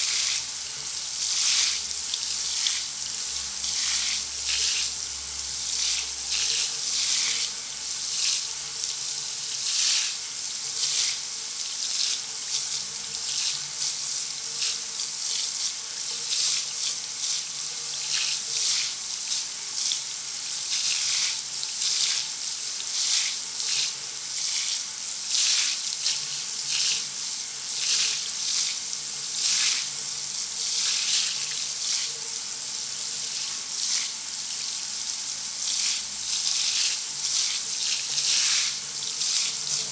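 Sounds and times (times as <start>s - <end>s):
shower spray hissing: 0.0s - 5.1s, 5.7s - 39.9s.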